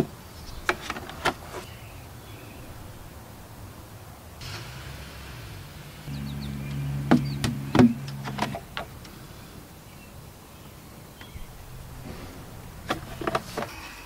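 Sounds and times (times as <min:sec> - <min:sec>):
low steady hum: 0:01.8 - 0:14.0.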